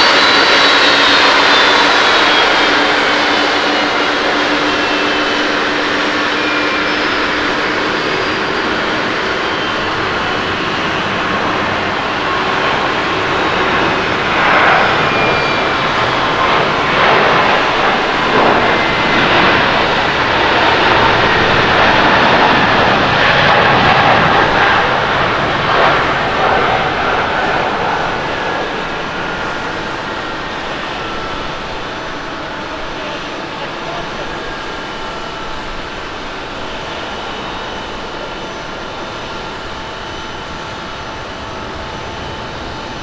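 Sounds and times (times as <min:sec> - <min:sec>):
jet engines roaring at takeoff: 0:00.0 - 0:43.0.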